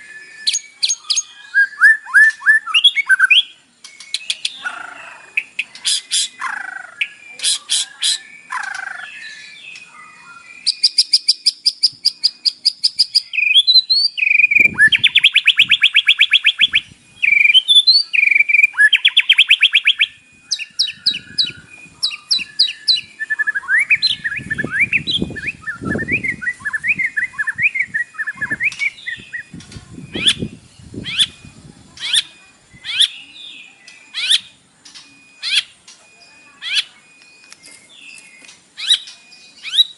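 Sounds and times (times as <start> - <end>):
songbird singing with whistles and trills: 0.0 - 39.9.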